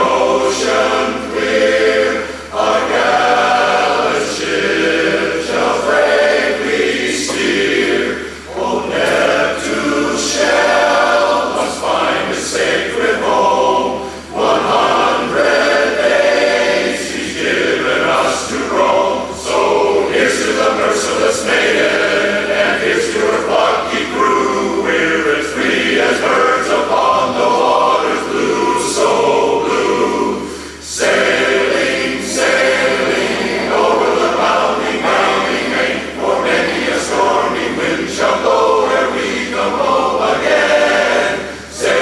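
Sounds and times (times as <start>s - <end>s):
men's chorus singing a cappella: 0.0s - 42.0s.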